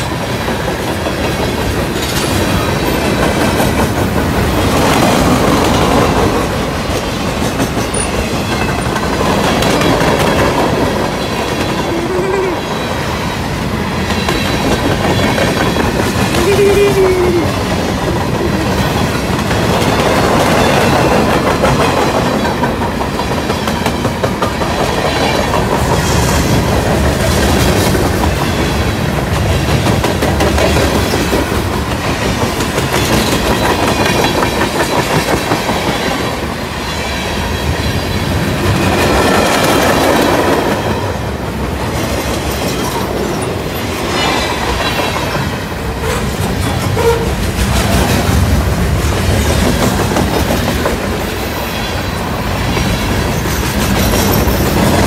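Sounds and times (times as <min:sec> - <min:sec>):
train wheels clattering over rails: 0:00.0 - 0:11.9, 0:12.7 - 0:16.4, 0:17.5 - 0:55.0.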